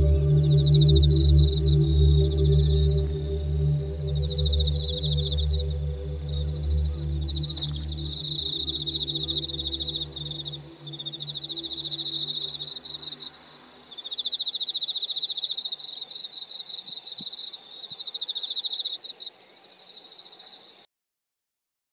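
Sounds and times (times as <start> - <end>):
soft sustained music tones: 0.0 - 18.7
insects trilling: 0.0 - 20.8.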